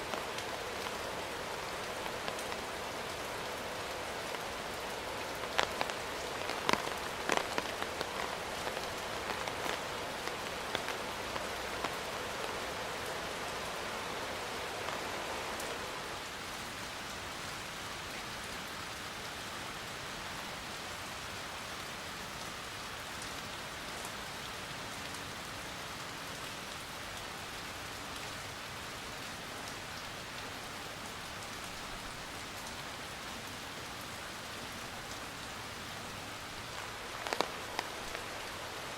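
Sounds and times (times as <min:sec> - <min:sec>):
rain falling: 0:00.0 - 0:38.9
raindrops striking a surface: 0:00.0 - 0:38.9.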